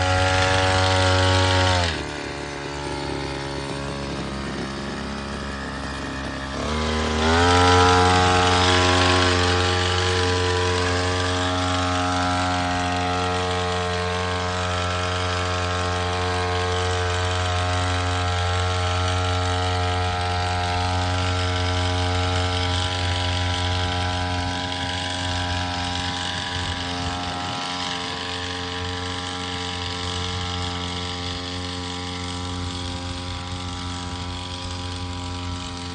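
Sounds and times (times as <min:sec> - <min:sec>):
two-stroke pump engine revving: 0:00.0 - 0:35.9.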